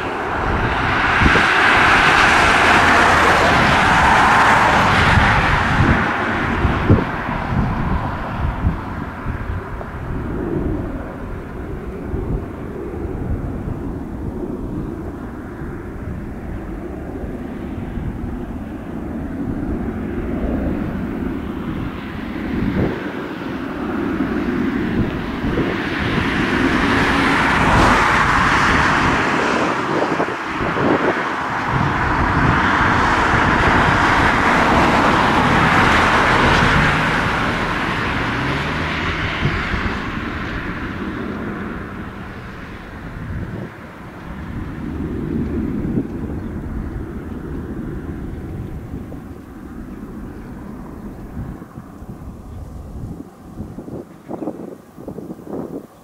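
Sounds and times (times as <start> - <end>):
jet airliner climbing overhead: 0.0 - 56.0.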